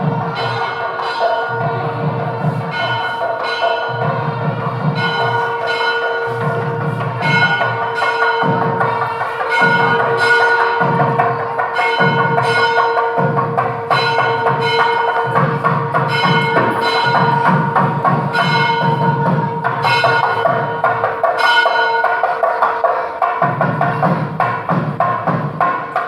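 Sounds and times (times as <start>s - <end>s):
music with bell-like ringing: 0.0s - 26.0s.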